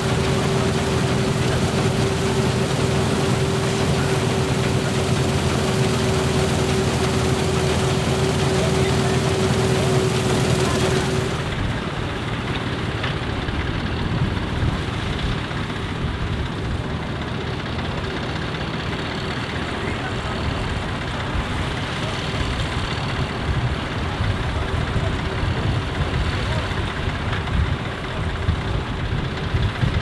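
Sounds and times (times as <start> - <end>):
combine harvester humming: 0.0 - 27.4.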